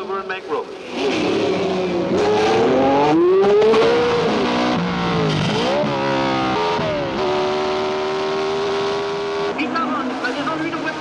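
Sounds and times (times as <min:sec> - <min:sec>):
racing car engine revving: 0:00.6 - 0:11.0.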